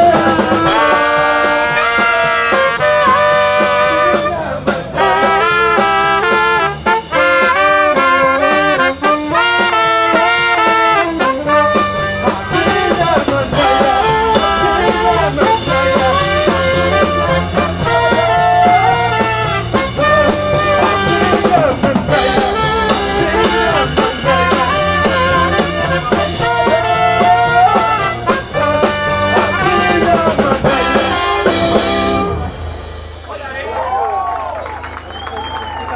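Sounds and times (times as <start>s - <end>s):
brass band playing: 0.0s - 35.9s
steady drum beat: 0.0s - 35.9s.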